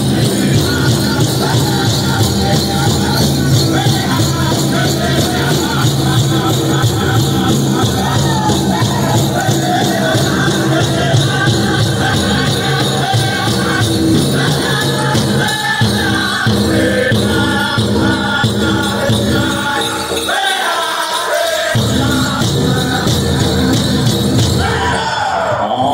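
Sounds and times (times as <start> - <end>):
big drum beat: 0.0 - 20.4, 21.7 - 25.0
leg bells jingling: 0.0 - 24.7
drum group singing: 0.0 - 25.9.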